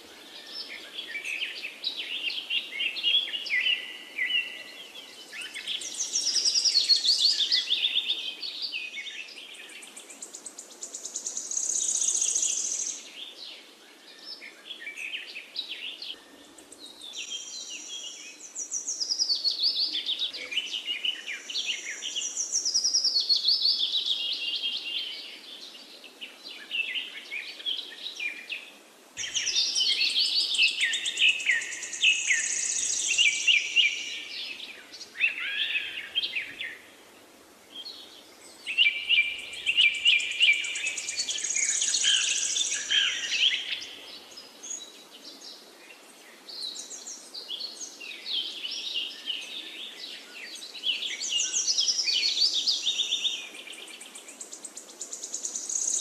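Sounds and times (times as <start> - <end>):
faint steady hiss: 0.0 - 56.0
songbirds chirping and singing: 0.0 - 56.0.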